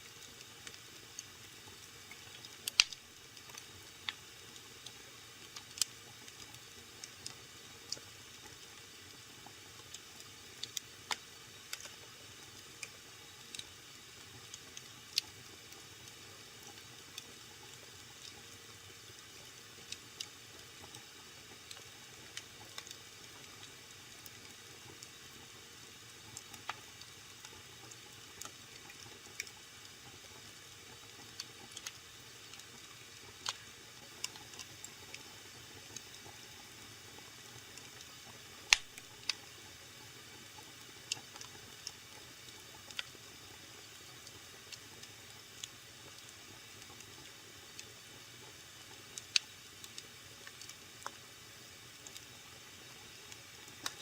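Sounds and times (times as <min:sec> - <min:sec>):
wood fire crackling and popping: 0:00.0 - 0:51.2, 0:51.9 - 0:54.0.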